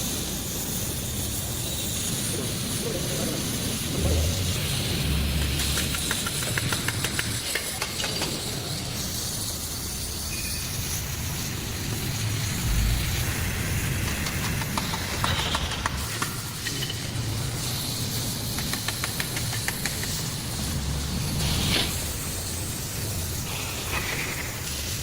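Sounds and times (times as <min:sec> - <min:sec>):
hissing machinery rumble: 0:00.0 - 0:25.0.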